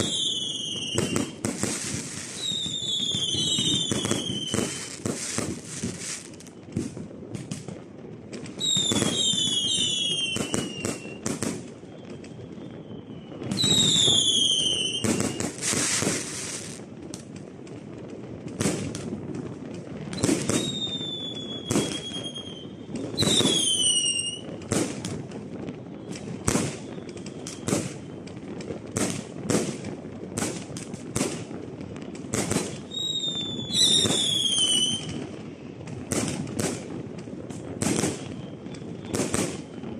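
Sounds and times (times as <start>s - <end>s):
fireworks bangs: 0.0s - 39.9s
whistling fireworks: 0.0s - 39.9s.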